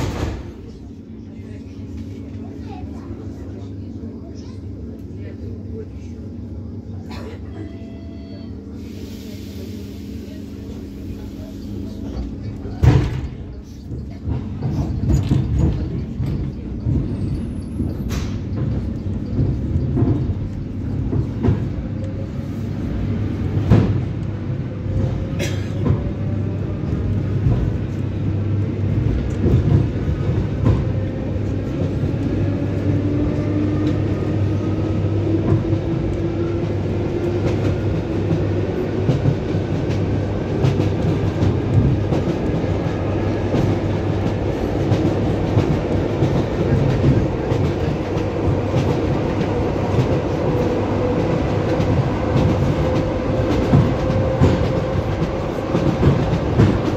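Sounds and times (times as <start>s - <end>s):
train rumble with rising whine: 0.0s - 56.9s.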